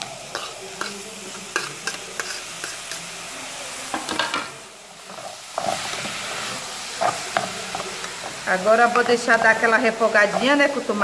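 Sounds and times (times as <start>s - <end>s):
spatula stirring in a pot: 0.0s - 3.3s, 4.9s - 11.0s
food sizzling in a pot: 0.0s - 11.0s.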